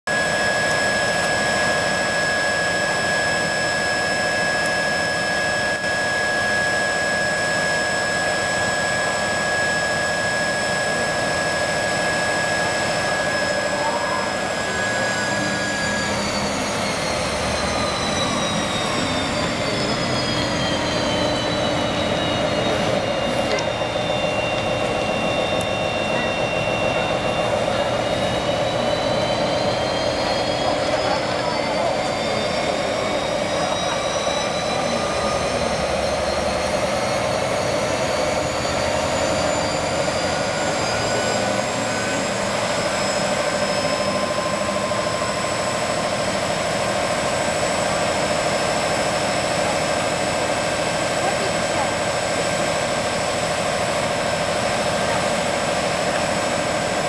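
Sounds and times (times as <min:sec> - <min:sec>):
turbocharger whine: 0:00.0 - 0:57.0
diesel locomotive engine revving: 0:00.1 - 0:57.0.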